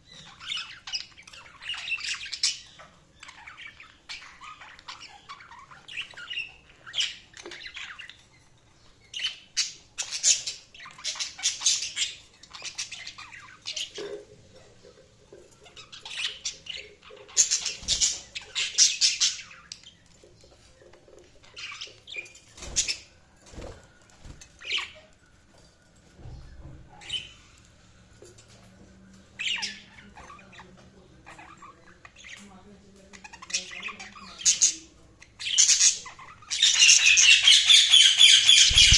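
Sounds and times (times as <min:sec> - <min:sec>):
budgerigars chirping and squawking: 0:00.0 - 0:25.2, 0:26.2 - 0:27.6, 0:29.3 - 0:38.9.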